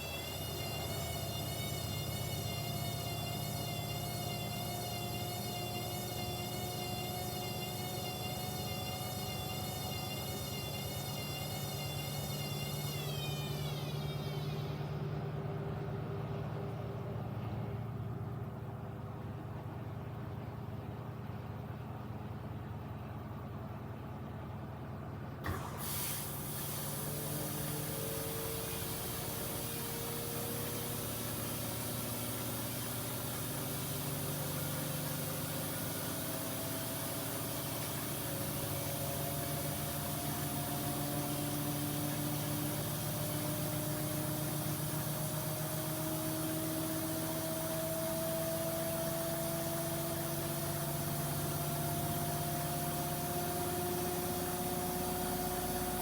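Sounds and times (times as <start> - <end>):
steady hum: 0.0 - 18.6, 25.4 - 56.0
washing machine motor whine: 0.0 - 56.0.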